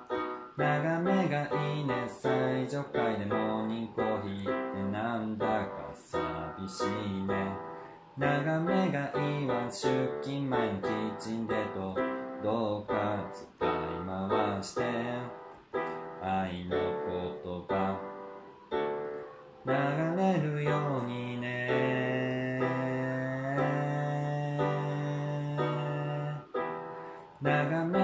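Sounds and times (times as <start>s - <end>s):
electronic keyboard playing chords: 0.0s - 28.0s
person singing: 0.0s - 28.0s.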